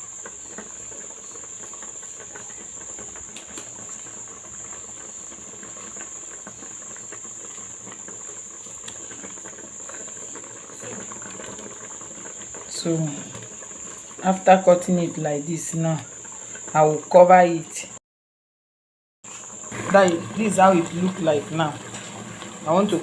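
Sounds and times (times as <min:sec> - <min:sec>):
soup sizzling and popping in oil: 0:00.0 - 0:18.0, 0:19.2 - 0:23.0.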